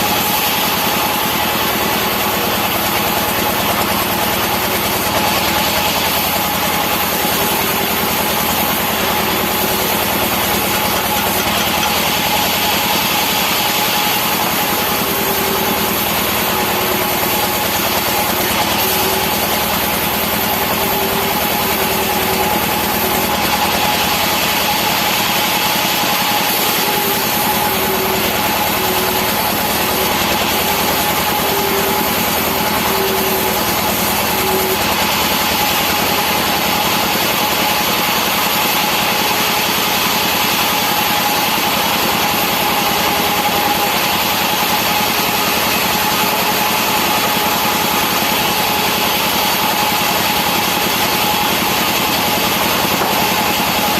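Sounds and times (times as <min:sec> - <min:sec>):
chainsaw engine running: 0:00.0 - 0:53.9.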